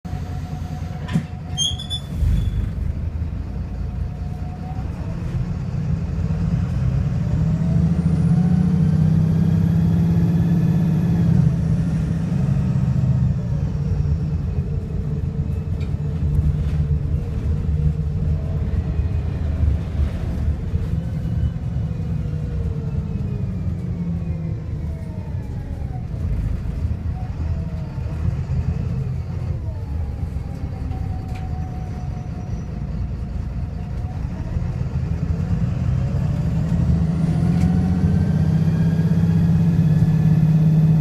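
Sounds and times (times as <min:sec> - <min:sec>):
misfiring diesel bus engine: 0:00.0 - 0:41.0.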